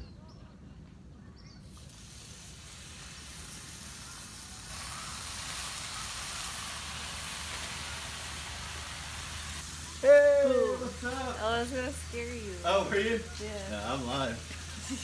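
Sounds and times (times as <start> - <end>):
bacon sizzling on griddle: 1.7 - 15.0.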